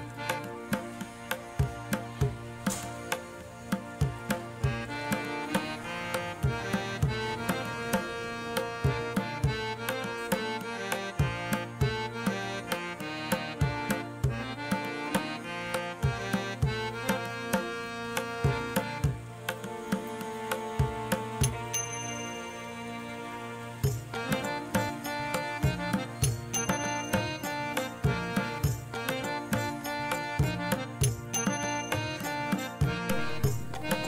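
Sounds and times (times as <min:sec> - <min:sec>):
steady drum beat: 0:00.0 - 0:22.2, 0:23.8 - 0:34.0
melody of held notes: 0:00.0 - 0:34.0.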